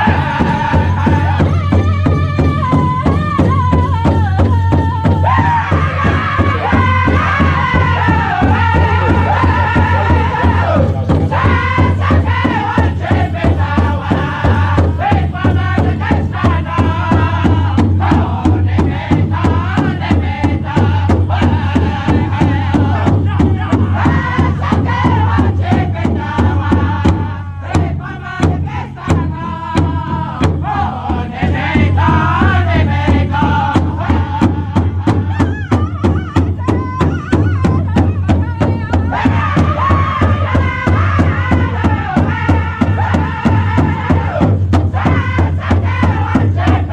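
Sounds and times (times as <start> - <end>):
bass drum beating: 0.0 - 46.9
group singing in high voices: 0.0 - 46.9.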